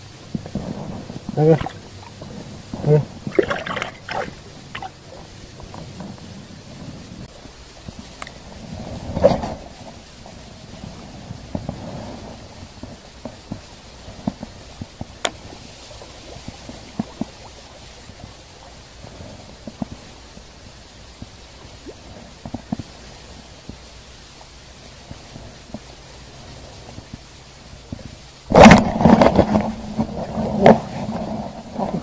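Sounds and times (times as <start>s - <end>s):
faint hiss: 0.0s - 32.0s.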